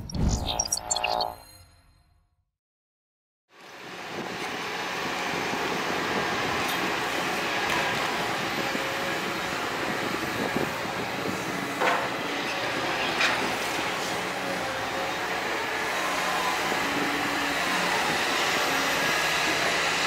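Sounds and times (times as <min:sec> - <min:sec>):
excavator engine and hydraulics: 0:03.6 - 0:20.0.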